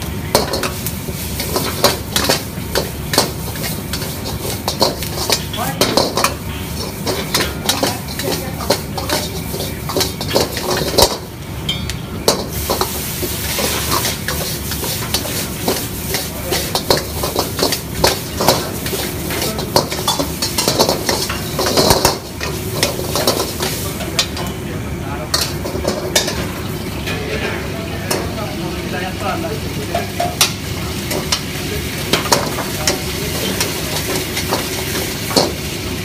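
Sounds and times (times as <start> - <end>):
ladle clanking and scraping wok: 0.0 - 28.5, 29.8 - 36.0
sizzling in hot wok: 0.0 - 36.0.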